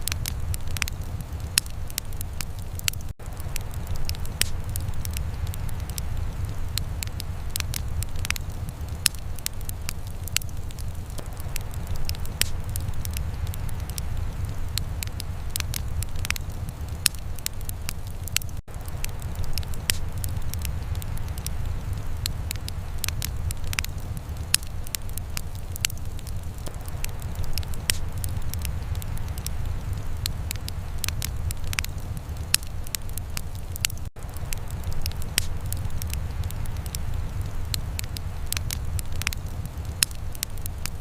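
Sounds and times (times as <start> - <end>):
fire flames rumbling: 0.0 - 41.0
logs crackling and popping: 0.0 - 41.0.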